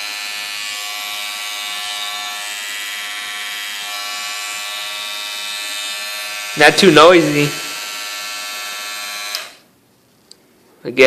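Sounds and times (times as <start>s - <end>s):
hair trimmer buzzing: 0.0s - 9.6s.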